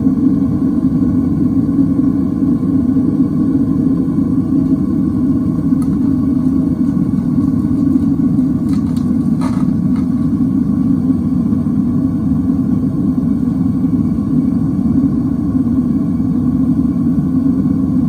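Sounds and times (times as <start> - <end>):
gas furnace burner rumbling: 0.0 - 18.0.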